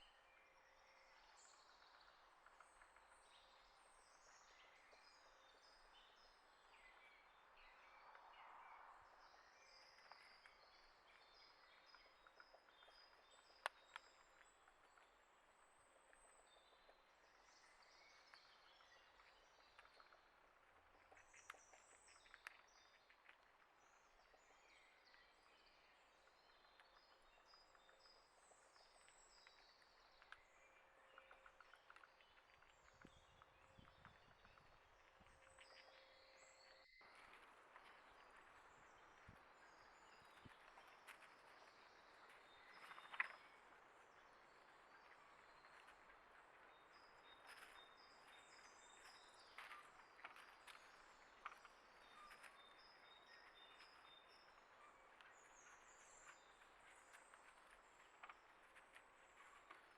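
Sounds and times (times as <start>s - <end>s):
small birds chirping: 9.3s - 59.9s.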